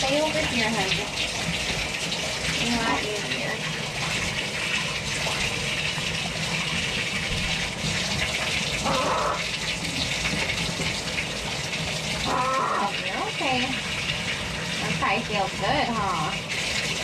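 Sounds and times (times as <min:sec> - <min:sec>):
faucet running and splashing: 0:00.0 - 0:17.0.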